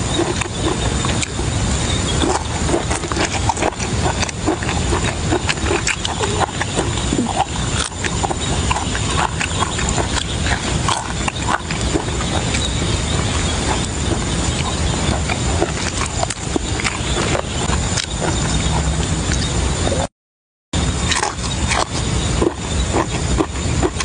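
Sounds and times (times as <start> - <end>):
chewing and lip-smacking: 0.0 - 20.0, 21.1 - 24.0
steady low rumble: 0.0 - 20.1, 20.8 - 24.0.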